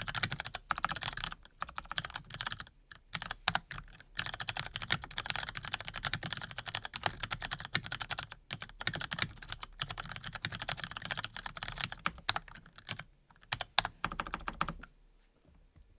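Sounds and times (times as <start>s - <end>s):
fast typing on mechanical keyboard: 0.0s - 14.9s.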